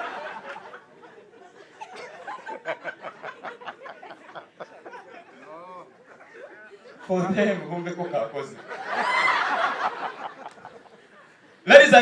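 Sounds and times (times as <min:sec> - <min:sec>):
audience laughing: 0:00.0 - 0:07.3, 0:08.1 - 0:11.5.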